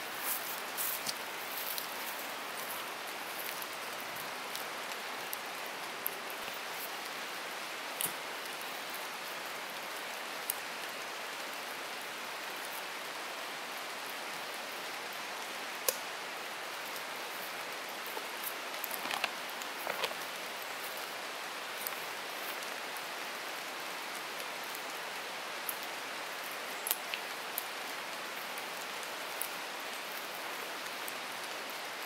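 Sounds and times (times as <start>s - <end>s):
rain falling on forest: 0.0s - 32.0s.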